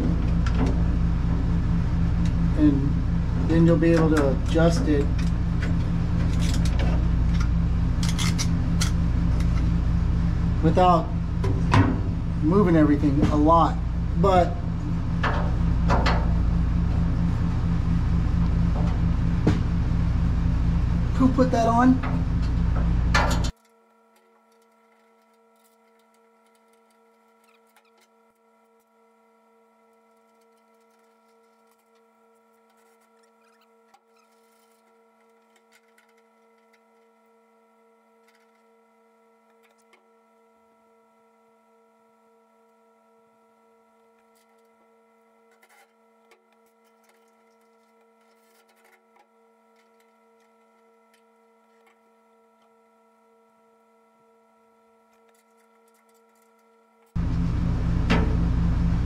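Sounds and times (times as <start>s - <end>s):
faint multi-tone hum: 0.0s - 59.0s.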